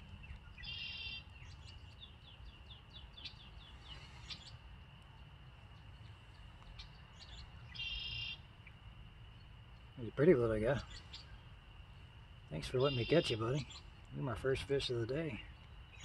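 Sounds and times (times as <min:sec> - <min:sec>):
low outdoor rumble: 0:00.0 - 0:16.0
songbirds calling: 0:00.0 - 0:16.0.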